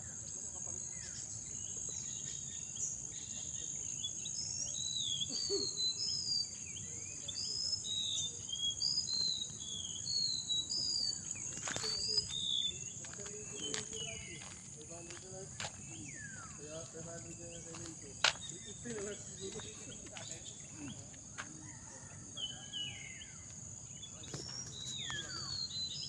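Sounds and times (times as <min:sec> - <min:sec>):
insect chorus: 0:00.0 - 0:26.0
songbird singing: 0:00.0 - 0:26.0.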